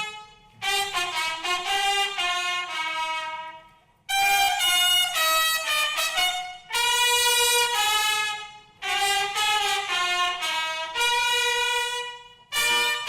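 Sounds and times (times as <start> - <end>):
trumpet playing long notes: 0.0 - 13.0.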